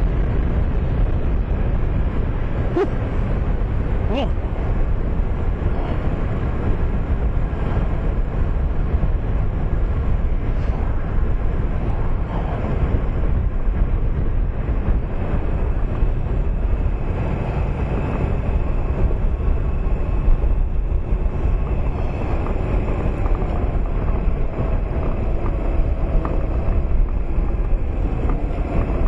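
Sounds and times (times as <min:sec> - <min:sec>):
motorcycle engine running: 0:00.0 - 0:29.0
wind buffeting microphone: 0:00.0 - 0:29.0.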